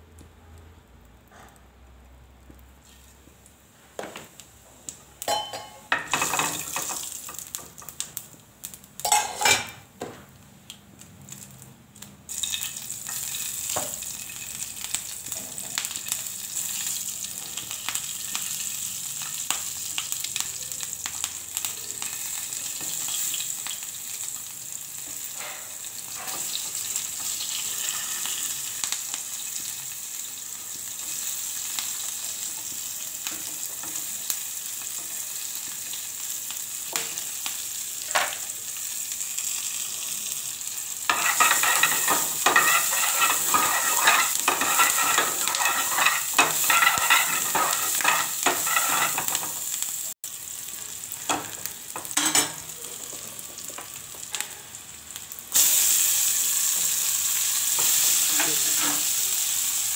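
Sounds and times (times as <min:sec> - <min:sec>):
seeds sizzling in hot oil: 0:02.0 - 0:03.6, 0:04.2 - 0:09.9, 0:10.7 - 0:59.9.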